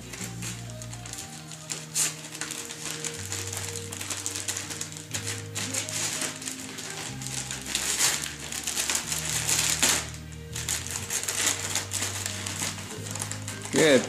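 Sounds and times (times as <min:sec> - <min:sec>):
background music with low notes: 0:00.0 - 0:14.0
wrapping paper crinkling and tearing: 0:00.0 - 0:14.0.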